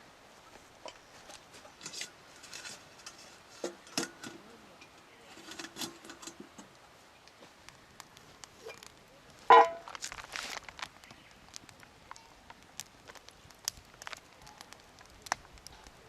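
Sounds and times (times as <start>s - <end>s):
small objects clicking and tapping: 0.8s - 16.0s.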